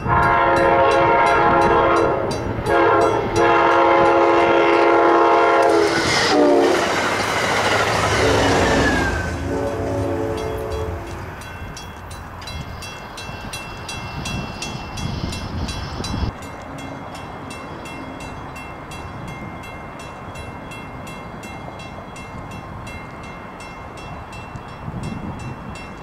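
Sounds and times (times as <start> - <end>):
crossing warning bell ringing: 0.0 - 26.0.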